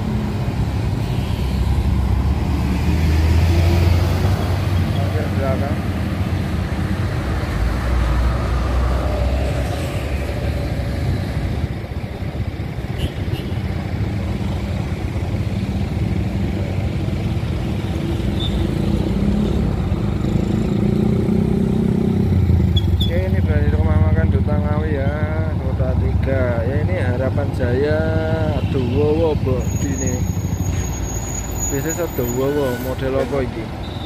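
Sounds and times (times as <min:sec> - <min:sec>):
bus diesel engines rumbling: 0:00.0 - 0:34.0.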